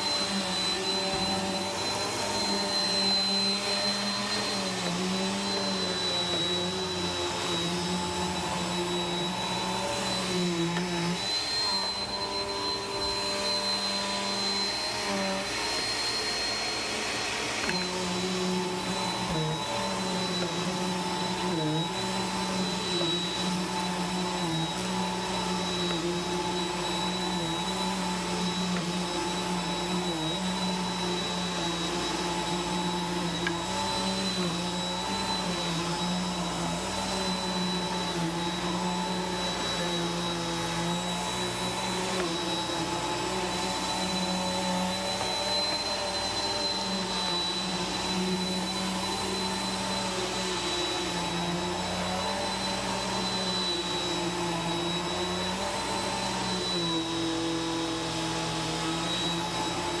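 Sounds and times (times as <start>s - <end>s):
vacuum cleaner on carpet: 0.0s - 60.0s.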